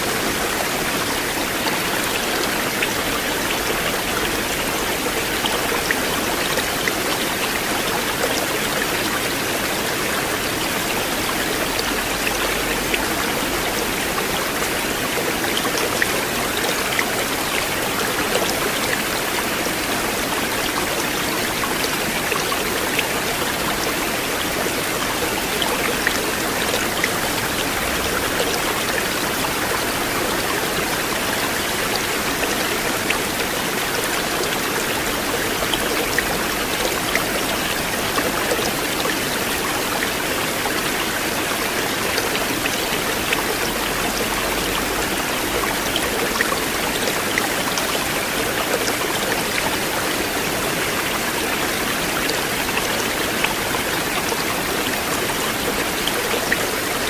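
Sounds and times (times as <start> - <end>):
river water flowing: 0.0 - 57.0
water drips and splashes: 0.0 - 57.0.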